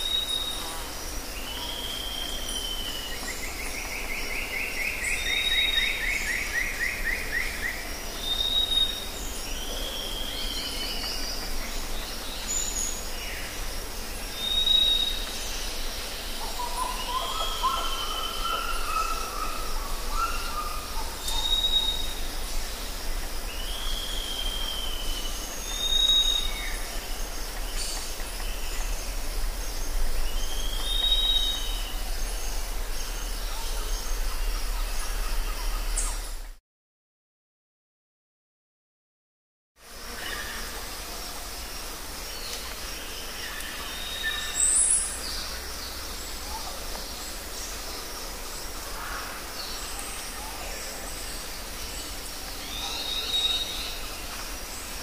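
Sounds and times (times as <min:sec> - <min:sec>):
birds singing: 0:00.0 - 0:36.5, 0:40.0 - 0:55.0.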